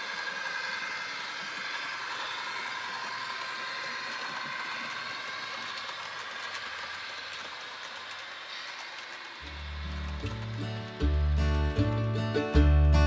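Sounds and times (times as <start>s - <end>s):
model train motor whirring: 0.0s - 12.6s
wheels clicking on track: 0.0s - 13.0s.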